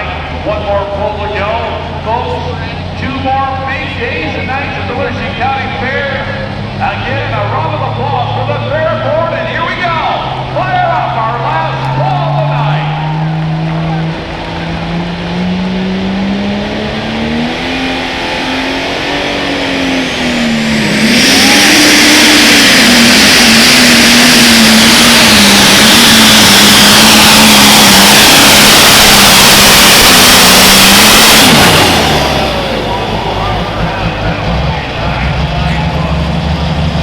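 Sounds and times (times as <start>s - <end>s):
high turbo whine: 0.0s - 37.0s
tractor engine revving: 0.0s - 37.0s.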